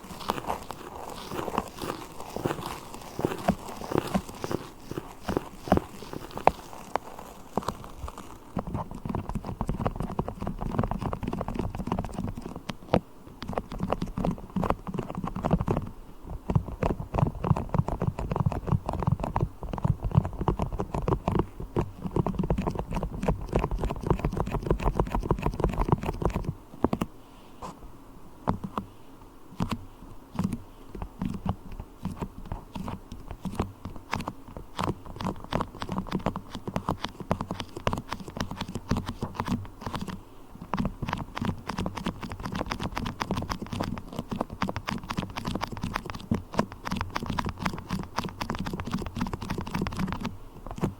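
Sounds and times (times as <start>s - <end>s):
wax crackling and squishing: 0.0s - 15.8s, 16.4s - 26.6s, 30.4s - 50.9s.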